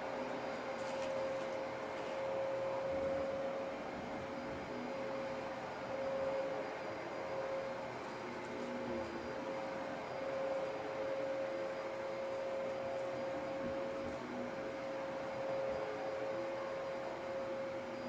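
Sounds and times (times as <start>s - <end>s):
upright vacuum cleaner running: 1.6s - 18.0s.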